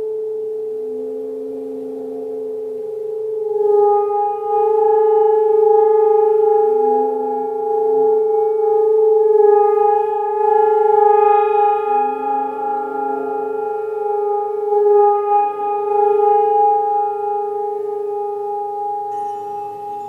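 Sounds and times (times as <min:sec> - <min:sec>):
lower bowl tone: 0:00.0 - 0:20.0
singing bowls droning: 0:00.0 - 0:20.0.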